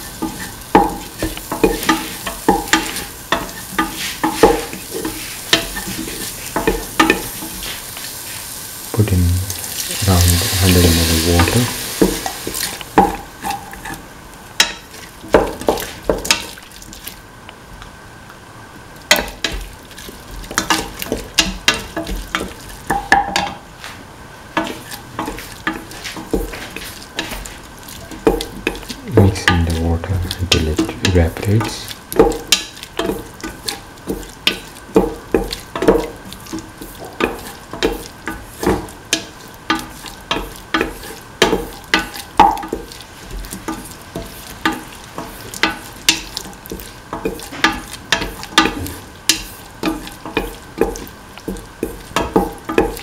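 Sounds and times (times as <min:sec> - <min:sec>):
vegetables sizzling in oil: 0:00.0 - 0:53.0.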